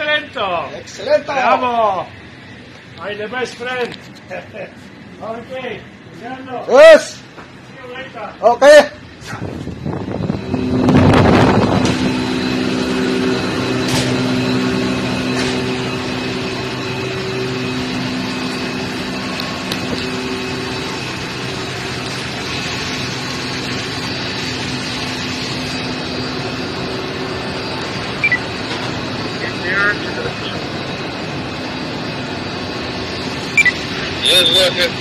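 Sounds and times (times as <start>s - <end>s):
engine-room machinery humming: 0.0s - 35.0s.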